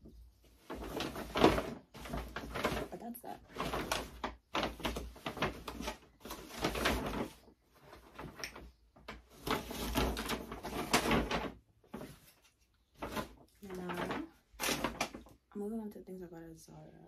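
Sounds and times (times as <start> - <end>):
rummaging through bags and clothing: 0.0 - 15.4.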